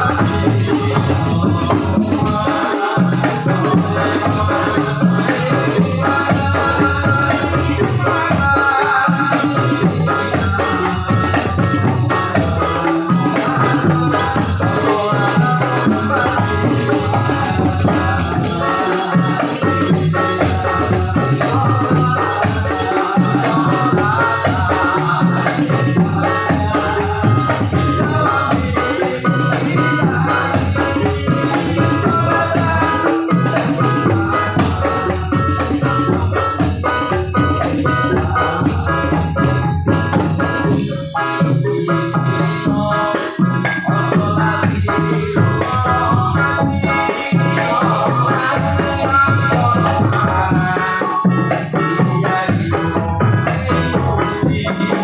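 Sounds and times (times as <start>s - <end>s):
hand percussion: 0.0s - 55.0s
men singing over a pa: 0.0s - 55.0s.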